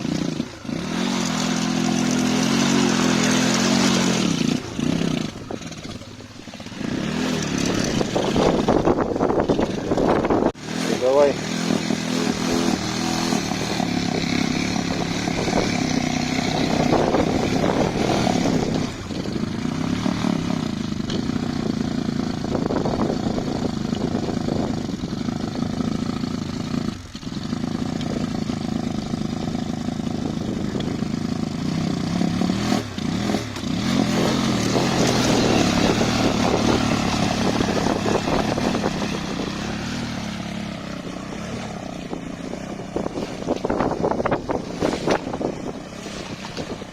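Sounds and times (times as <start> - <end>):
motorcycle engine under load: 0.0 - 46.9.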